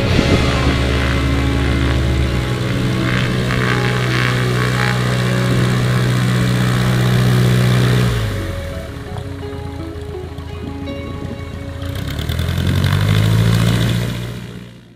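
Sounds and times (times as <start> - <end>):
propeller airplane taxiing: 0.0 - 14.9.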